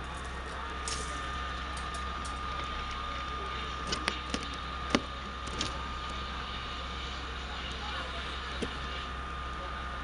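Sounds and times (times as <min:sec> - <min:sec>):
thin steady whine: 0:00.0 - 0:10.0.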